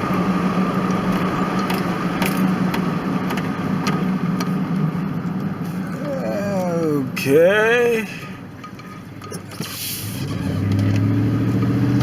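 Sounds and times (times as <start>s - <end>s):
truck engine running steadily: 0.0s - 12.0s.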